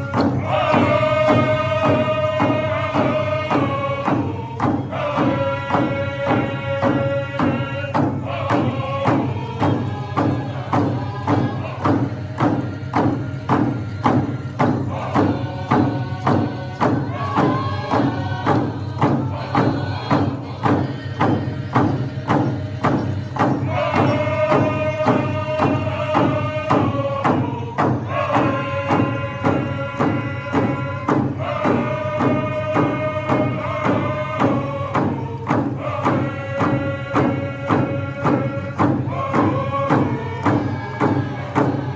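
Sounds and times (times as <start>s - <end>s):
group singing in chorus: 0.0s - 41.9s
high lead voices singing: 0.0s - 41.9s
large hand drum beat: 0.0s - 41.9s.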